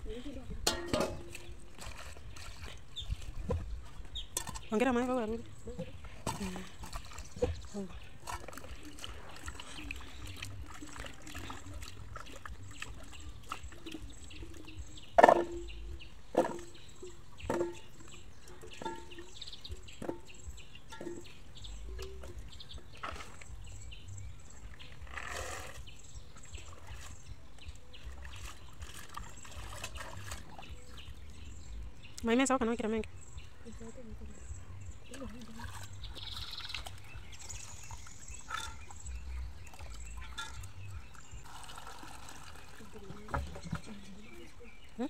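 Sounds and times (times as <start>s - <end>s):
water sloshing: 0.0s - 45.0s.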